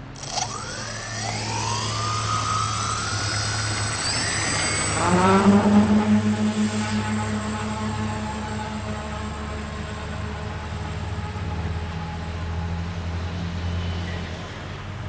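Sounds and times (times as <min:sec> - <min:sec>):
propeller motors whining: 0:00.0 - 0:12.5.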